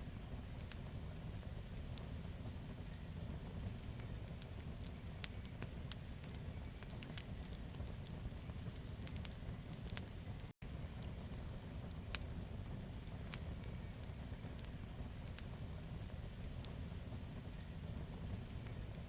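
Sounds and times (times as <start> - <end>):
campfire crackling and popping: 0.0 - 19.0
low rumble of flames: 0.0 - 19.0.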